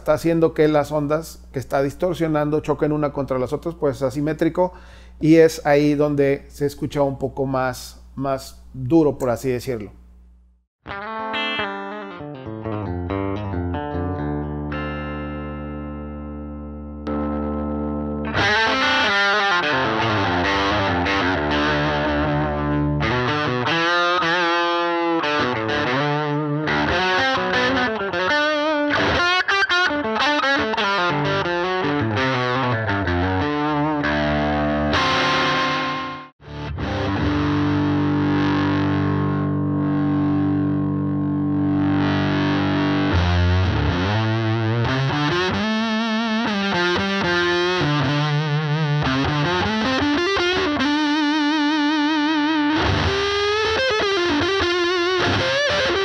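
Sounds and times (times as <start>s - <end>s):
distorted electric guitar: 10.8s - 56.0s.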